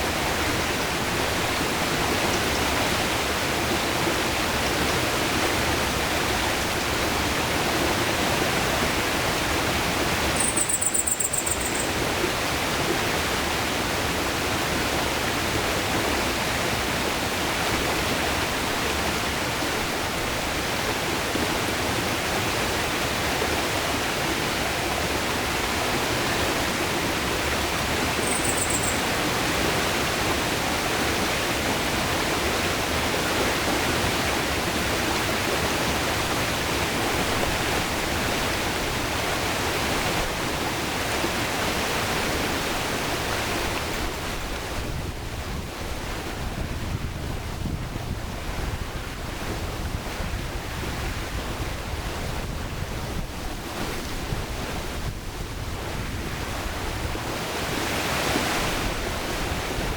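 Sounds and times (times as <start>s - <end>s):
river water rushing: 0.0s - 47.1s, 48.3s - 59.9s.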